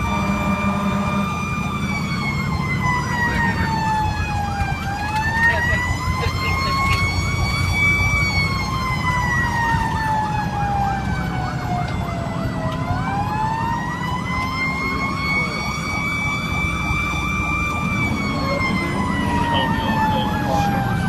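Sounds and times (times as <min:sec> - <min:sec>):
electronic siren yelping: 0:00.0 - 0:21.0
truck engine rumbling: 0:00.0 - 0:21.0.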